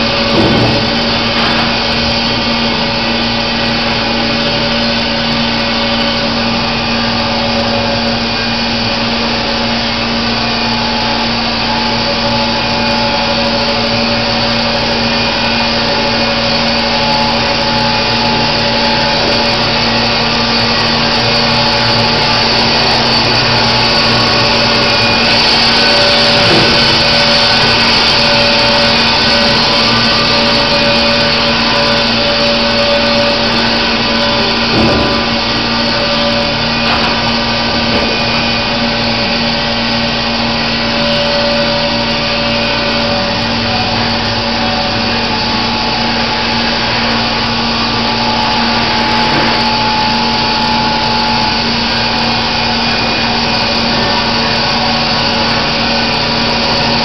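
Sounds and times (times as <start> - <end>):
band sawmill machine drone: 0.0 - 57.0.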